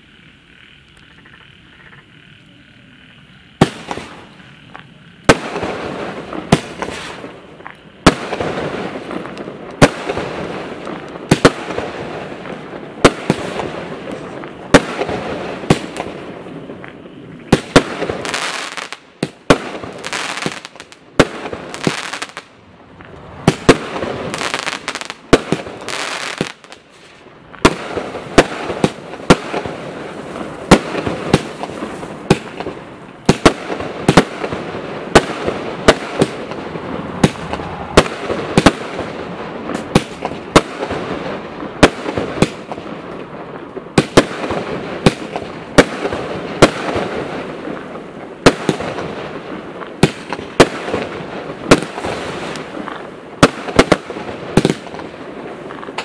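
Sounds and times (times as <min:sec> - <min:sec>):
fireworks hiss: 0:00.0 - 0:56.0
fireworks reports: 0:00.2 - 0:56.0.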